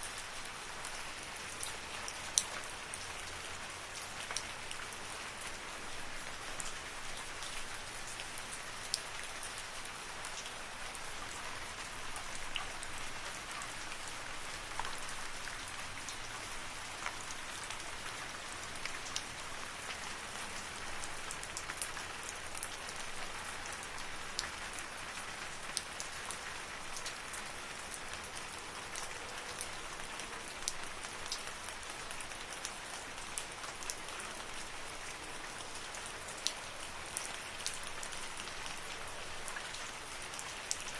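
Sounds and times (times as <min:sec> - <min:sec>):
rain falling in forest: 0:00.0 - 0:40.9
raindrops ticking on leaves: 0:00.0 - 0:40.9.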